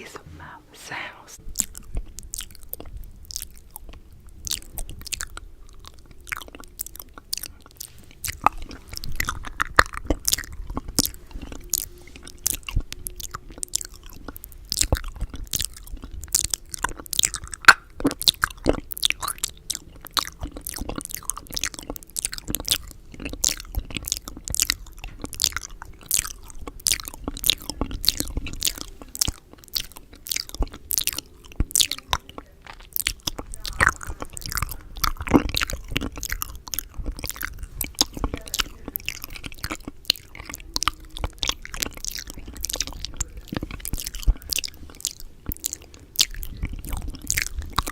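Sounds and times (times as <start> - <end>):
wet mouth clicks and smacks: 1.5 - 47.9.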